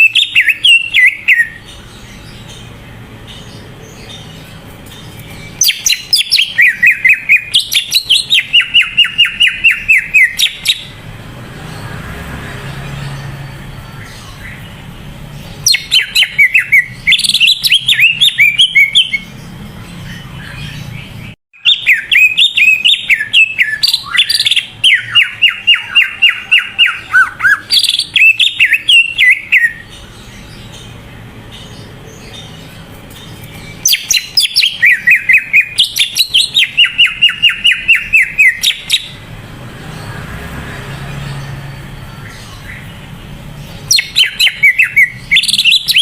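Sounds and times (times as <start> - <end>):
bird whistling chirps and trills: 0.0 - 46.0.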